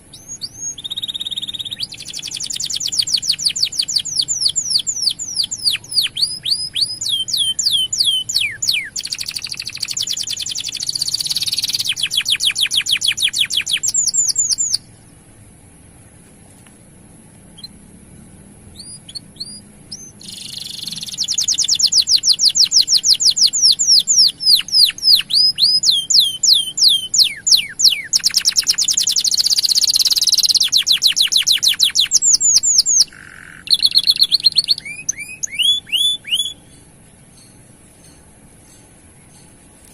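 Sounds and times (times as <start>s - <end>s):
canary singing fast trills: 0.0s - 15.2s, 17.5s - 17.8s, 18.6s - 39.9s.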